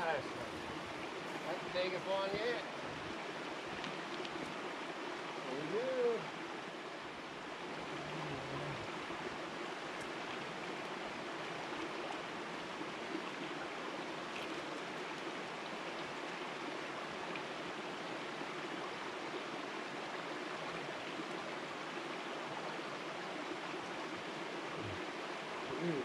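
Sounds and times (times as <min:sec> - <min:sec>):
creek flowing over rocks: 0:00.0 - 0:26.0.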